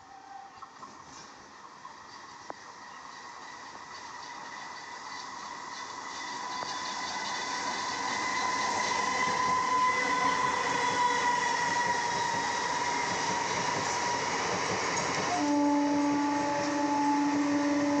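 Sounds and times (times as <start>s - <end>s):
train wheels on rails: 0.0s - 18.0s
train whine dropping in pitch: 3.1s - 18.0s.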